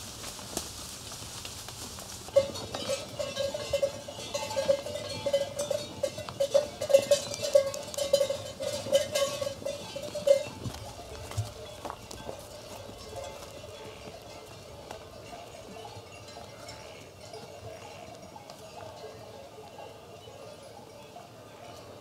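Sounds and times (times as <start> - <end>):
sheep bells clanking: 2.0 - 22.0.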